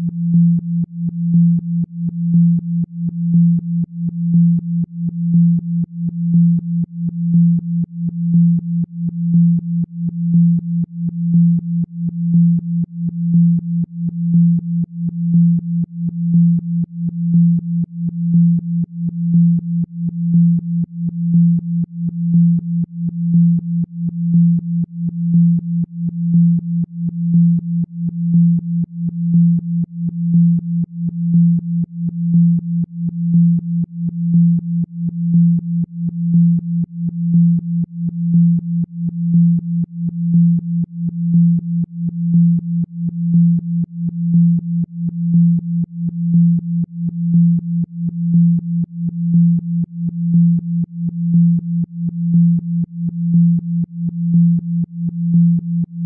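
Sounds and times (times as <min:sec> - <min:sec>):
low pure electronic tone: 0:00.0 - 0:56.0.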